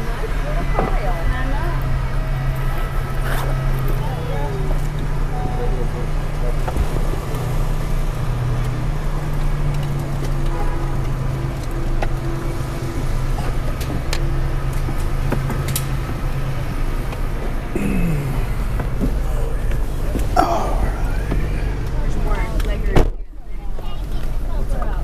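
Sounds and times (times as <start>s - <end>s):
car engine and cabin hum: 0.1s - 25.0s.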